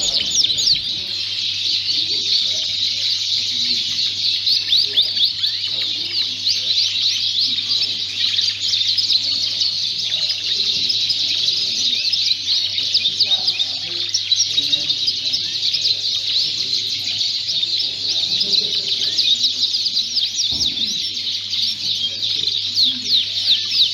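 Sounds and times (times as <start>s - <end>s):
canaries singing: 0.0s - 23.9s.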